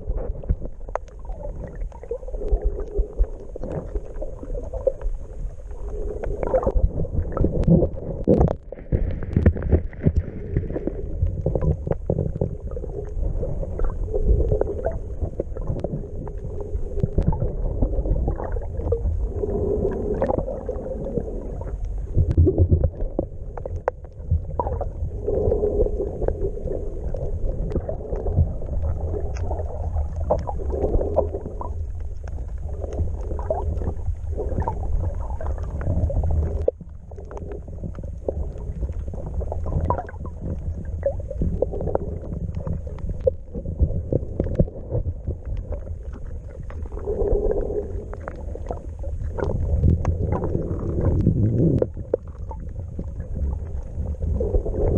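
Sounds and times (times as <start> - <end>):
faint underwater clicks: 0.0 - 54.9
underwater rumble of moving water: 0.0 - 54.9.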